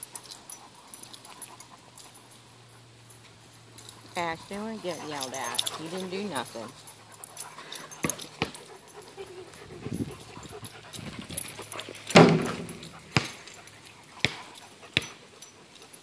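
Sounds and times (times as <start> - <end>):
dogs panting and whining: 0.0 - 16.0.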